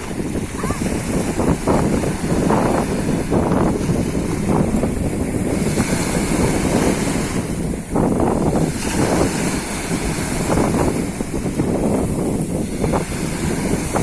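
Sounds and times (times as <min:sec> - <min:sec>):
waves washing on shore: 0:00.0 - 0:14.0
wind buffeting microphone: 0:00.0 - 0:14.0.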